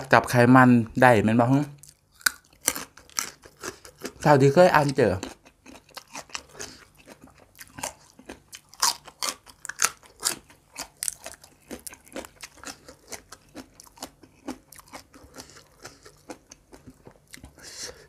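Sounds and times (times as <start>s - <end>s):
crunching of stalk being chewed: 1.7s - 18.0s.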